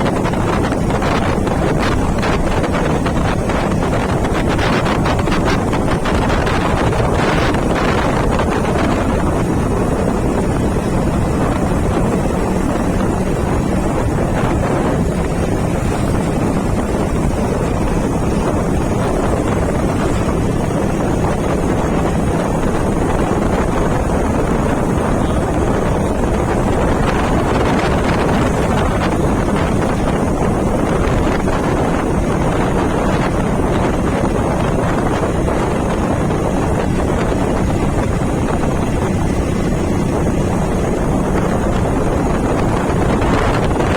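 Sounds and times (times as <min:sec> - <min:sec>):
motorcycle engine drone: 0:00.0 - 0:43.9
wind on microphone: 0:00.0 - 0:43.9.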